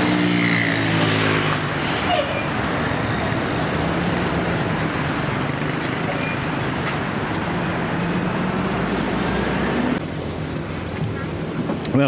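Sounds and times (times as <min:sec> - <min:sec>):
lorry diesel engine: 0:00.0 - 0:11.6.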